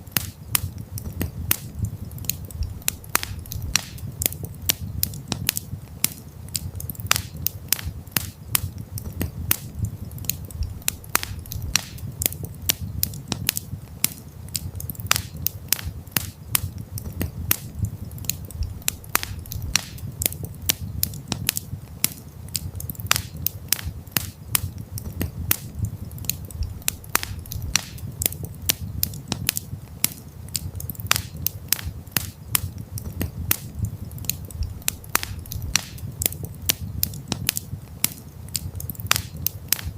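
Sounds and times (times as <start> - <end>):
campfire pops and snaps: 0.0 - 39.9
fire burning rumble: 0.0 - 39.9.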